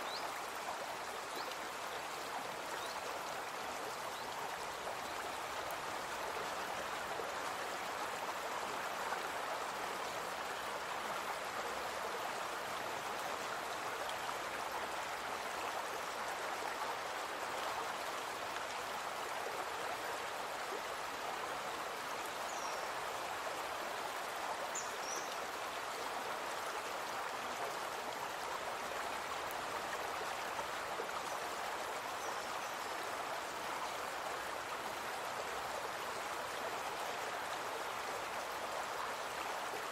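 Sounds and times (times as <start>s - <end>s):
brook water flowing: 0.0s - 39.9s.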